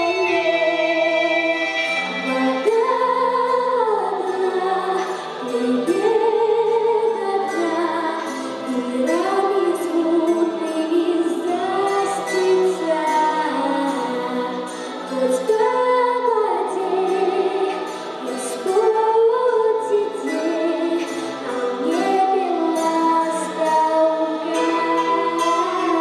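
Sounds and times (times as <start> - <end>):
boy singing into microphone: 0.0 - 26.0
instrumental backing track: 0.0 - 26.0.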